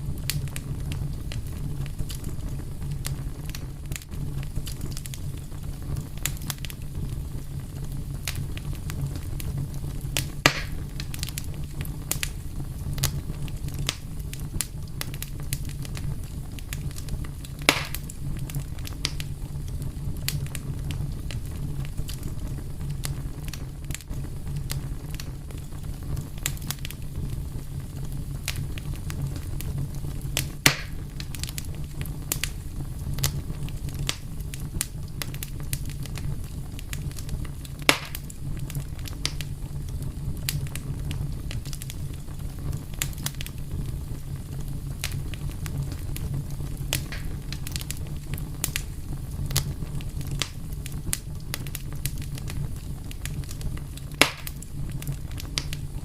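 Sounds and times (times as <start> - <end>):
fire crackling: 0.0 - 56.0
loud pops of fire: 0.0 - 56.0.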